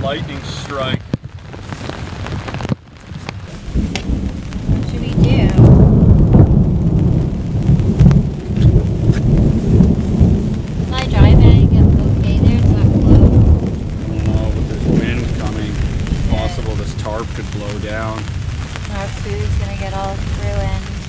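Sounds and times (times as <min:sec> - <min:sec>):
rain pattering on a tarp: 0:00.0 - 0:21.0
thunder rumbling: 0:00.0 - 0:21.0.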